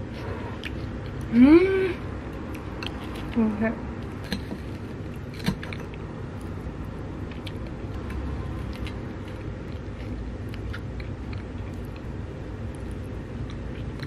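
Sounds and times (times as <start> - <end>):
person chewing close up: 0.0 - 1.3, 2.2 - 14.0.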